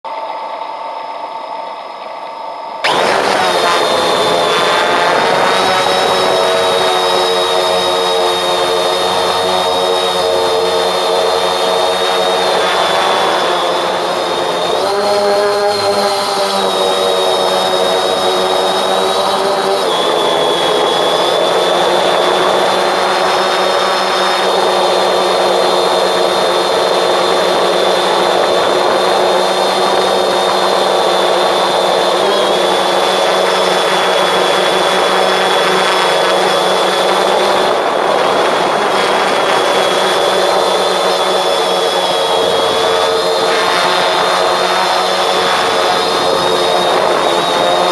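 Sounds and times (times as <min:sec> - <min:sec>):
drone propellers whining: 0:02.8 - 0:47.9.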